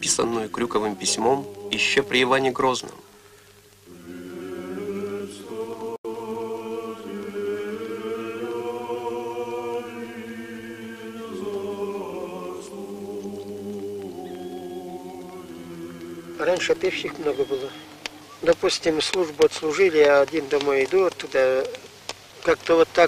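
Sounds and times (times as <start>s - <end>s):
unison a cappella chant: 0.0s - 2.9s, 3.8s - 21.5s.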